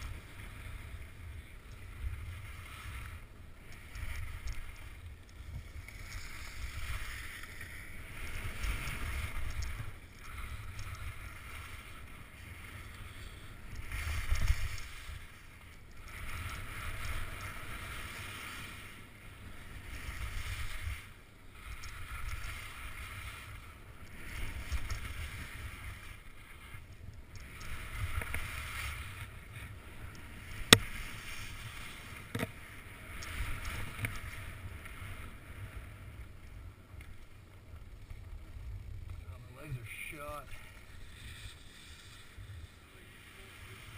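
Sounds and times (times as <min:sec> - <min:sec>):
skis swishing on snow: 0:00.0 - 0:26.9, 0:27.5 - 0:36.4, 0:39.3 - 0:43.9.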